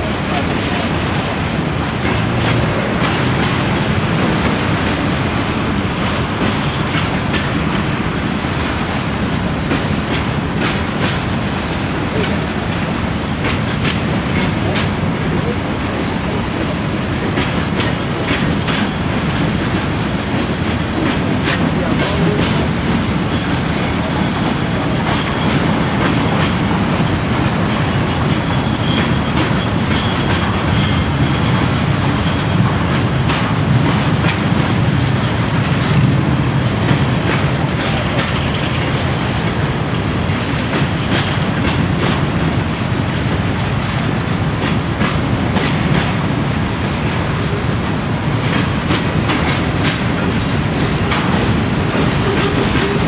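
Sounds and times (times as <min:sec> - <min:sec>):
freight train rumbling: 0:00.0 - 0:53.0
wheels clacking over rail joints: 0:00.0 - 0:53.0.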